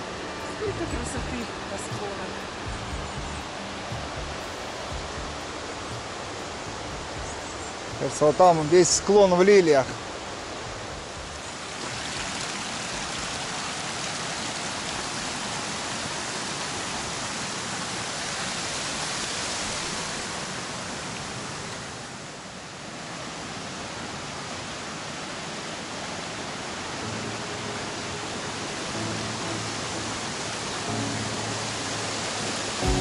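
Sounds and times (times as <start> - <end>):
mountain stream rushing over rocks: 0.0 - 33.0.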